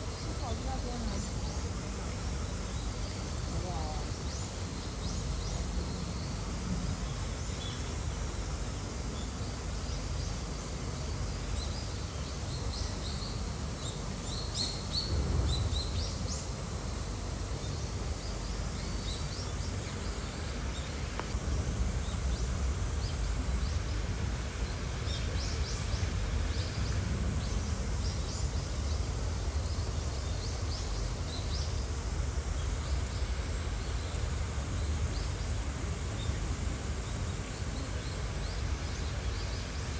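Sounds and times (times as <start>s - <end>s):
low rumble and hiss: 0.0s - 39.9s
small birds chirping: 0.0s - 39.9s.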